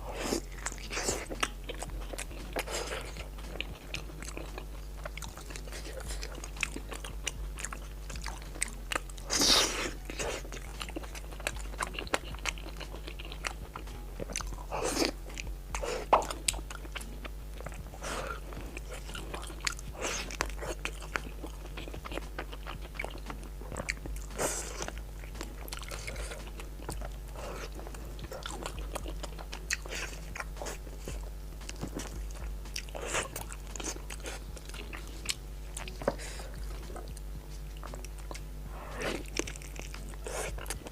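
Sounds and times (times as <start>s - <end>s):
chewing and biting: 0.0s - 40.9s.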